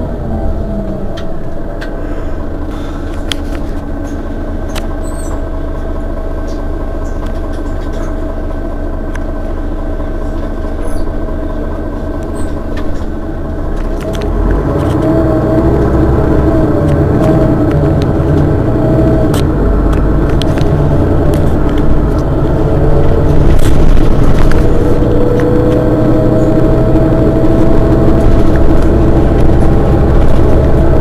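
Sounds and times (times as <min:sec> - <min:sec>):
bus engine idling: 0:00.0 - 0:31.0.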